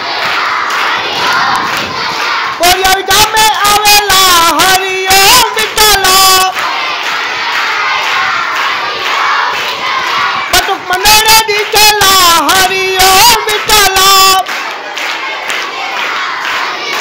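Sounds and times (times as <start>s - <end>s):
boys shouting and cheering: 0.0s - 17.0s
loud long held shout: 0.0s - 17.0s.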